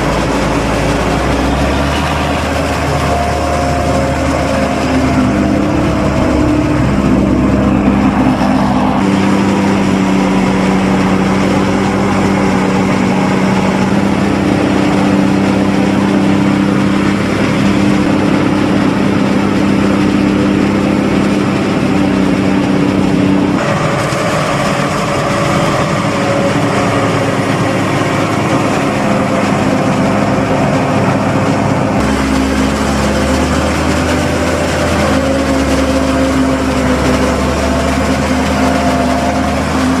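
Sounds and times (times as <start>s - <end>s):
forage harvester running: 0.0s - 40.0s
tractor diesel engines running: 0.0s - 40.0s.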